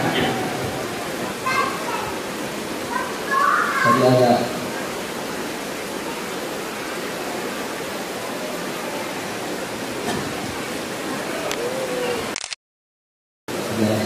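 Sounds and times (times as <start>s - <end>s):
rushing hiss of hall ambience: 0.0s - 12.4s, 13.5s - 14.0s.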